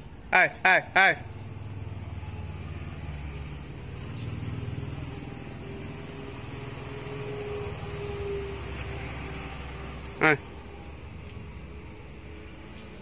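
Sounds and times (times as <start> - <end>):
vehicle engine running: 1.2 - 13.0.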